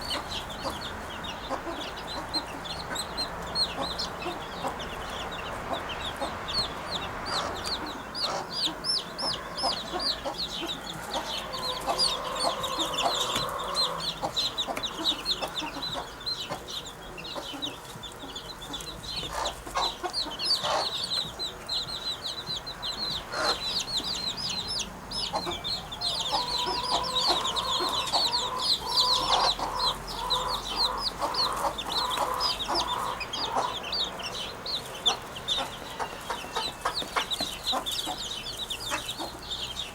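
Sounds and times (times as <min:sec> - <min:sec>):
birds chirping rapidly: 0:00.0 - 0:39.9
lower held bird calls: 0:00.0 - 0:39.9.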